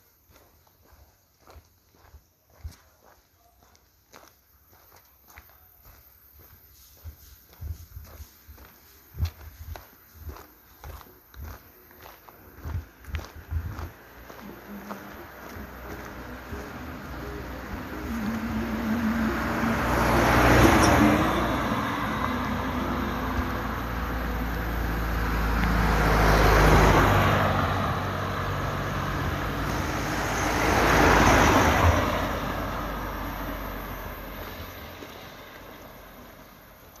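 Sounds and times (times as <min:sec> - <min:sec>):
cars passing on asphalt: 0:00.0 - 0:37.0.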